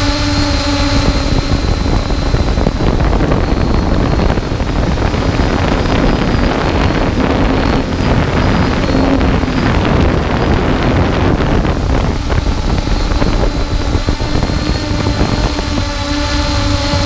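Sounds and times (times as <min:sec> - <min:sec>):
drone motors humming: 0:00.0 - 0:17.0
wind buffeting microphone: 0:00.0 - 0:17.0.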